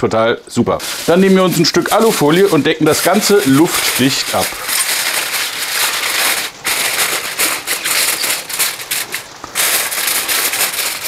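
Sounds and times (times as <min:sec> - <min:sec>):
aluminium foil crinkling: 0:00.8 - 0:11.0.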